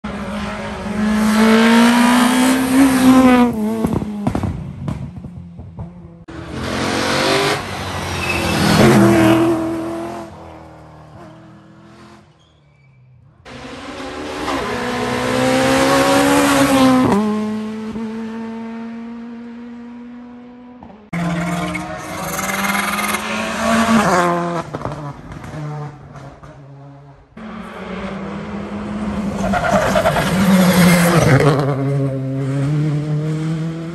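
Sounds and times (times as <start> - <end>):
rally car engines revving past: 0.1 - 12.5, 13.4 - 33.9.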